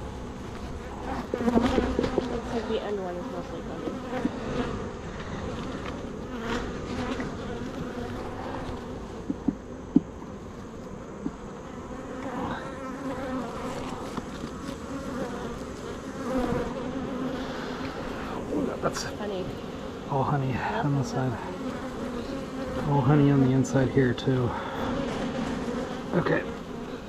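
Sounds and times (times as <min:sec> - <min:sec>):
honeybees buzzing: 0:00.0 - 0:27.0.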